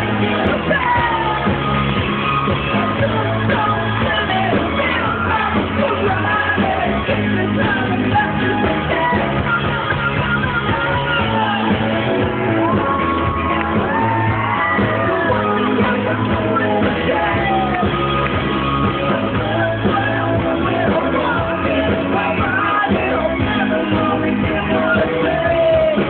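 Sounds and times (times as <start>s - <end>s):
bass and drums: 0.0s - 26.0s
electric guitar: 0.0s - 26.0s
person singing: 0.0s - 26.0s.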